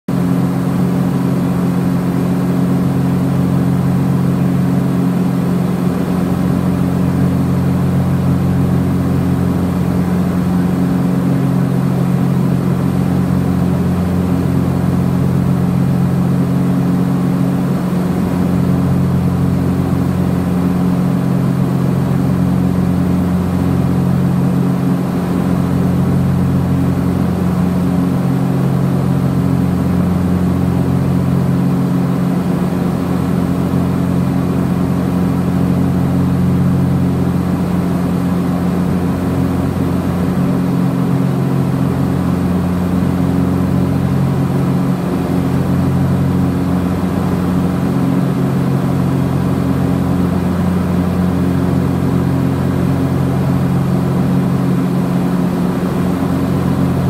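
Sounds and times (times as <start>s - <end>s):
aircraft cabin engine drone: 0.1s - 57.0s.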